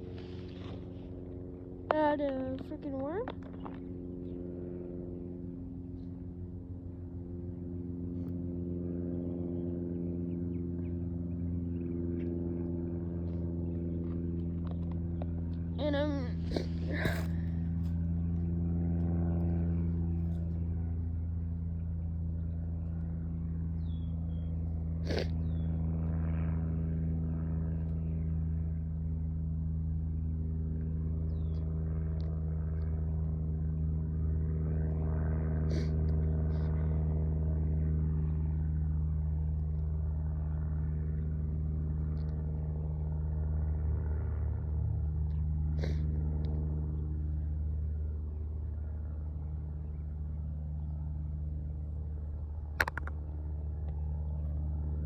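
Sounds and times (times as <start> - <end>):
engine droning at low speed: 0.0 - 55.0.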